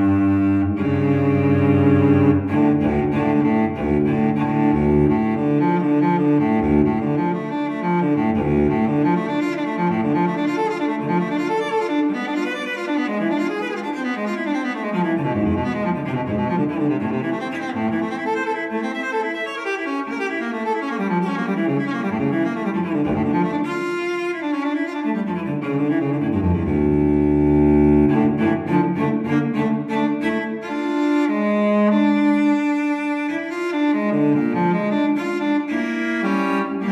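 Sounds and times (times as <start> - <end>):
low cello line: 0.0 - 36.9
sustained bowed strings: 0.0 - 36.9.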